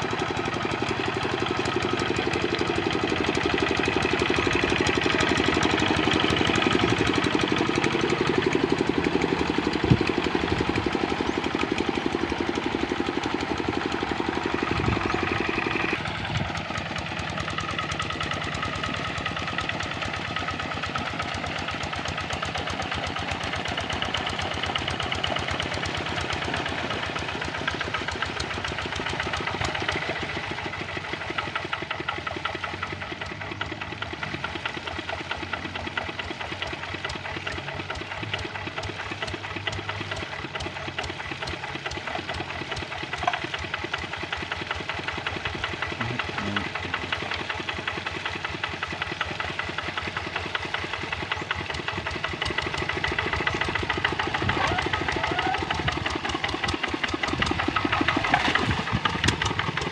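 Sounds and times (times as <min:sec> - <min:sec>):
diesel engine clattering: 0:00.0 - 0:59.9.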